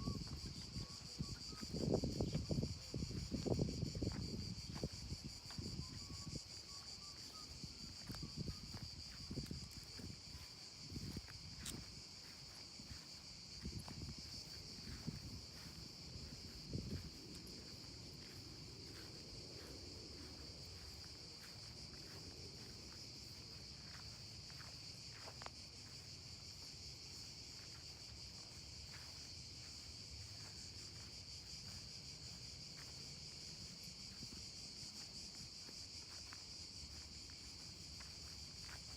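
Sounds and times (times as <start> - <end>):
footsteps walking: 0.0 - 38.9
insect chorus buzzing: 0.0 - 38.9.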